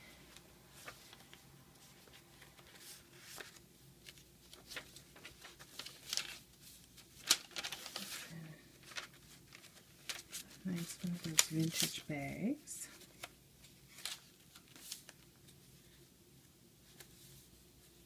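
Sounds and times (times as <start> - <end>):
paper pages rustling: 0.3 - 16.1, 16.8 - 18.0.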